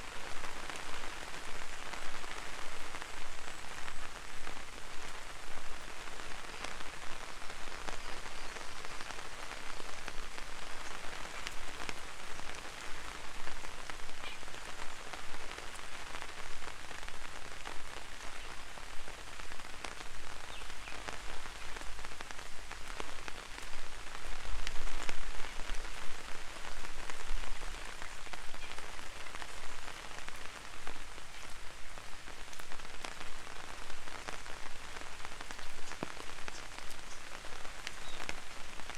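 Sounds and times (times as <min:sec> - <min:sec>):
rain hissing: 0:00.0 - 0:38.9
raindrops ticking on umbrella: 0:00.0 - 0:38.9.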